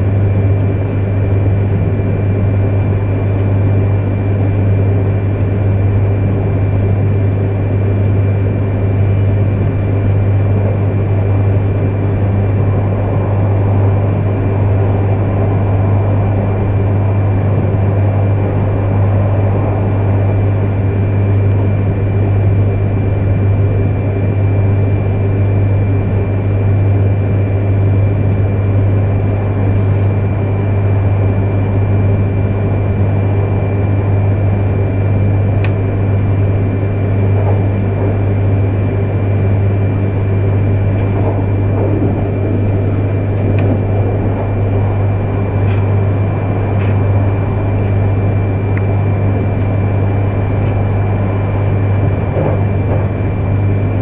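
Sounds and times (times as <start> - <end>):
high whine: 0.0 - 54.0
train cabin low hum: 0.0 - 54.0.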